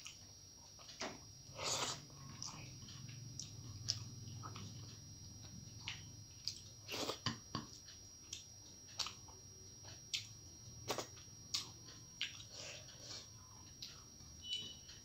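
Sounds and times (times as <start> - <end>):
person chewing: 0.0 - 14.1.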